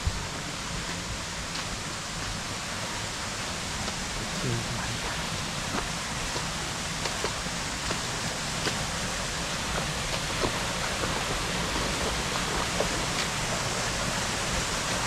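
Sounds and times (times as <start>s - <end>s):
rushing falling water: 0.0s - 15.0s.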